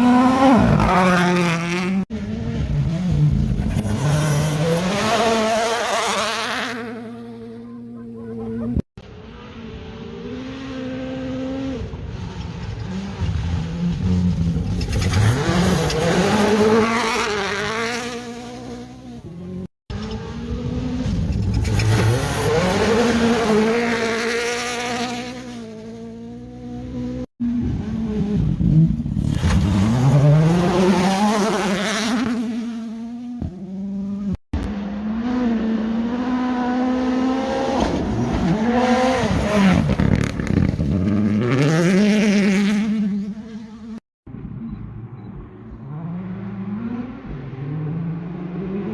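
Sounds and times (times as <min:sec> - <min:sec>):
rally cars driving past: 0:00.0 - 0:48.9.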